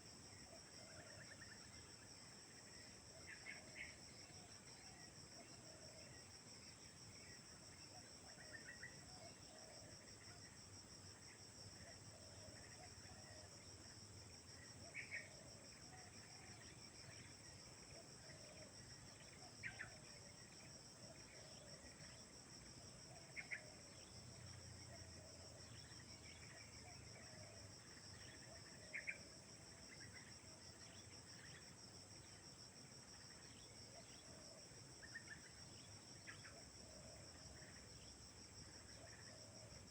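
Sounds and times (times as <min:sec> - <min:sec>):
night insects chorus: 0:00.0 - 0:39.9.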